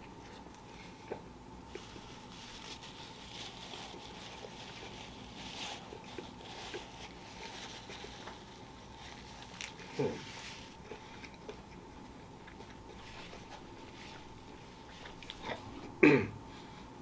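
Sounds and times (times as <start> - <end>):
person chewing crispy food: 0.1 - 15.9.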